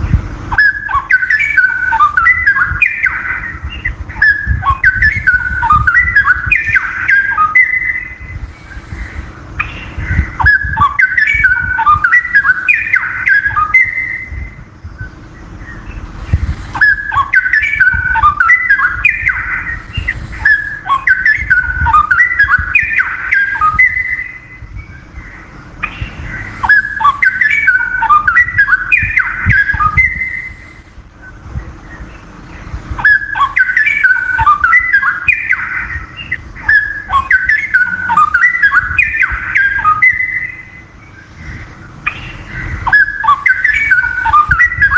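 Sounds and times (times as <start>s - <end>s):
bird singing whistled notes: 0.0s - 44.9s.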